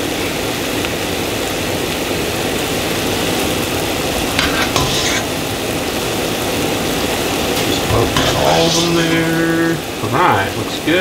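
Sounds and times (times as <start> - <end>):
sharp crackles: 0.0 - 11.0
vegetables sizzling in pans: 0.0 - 11.0.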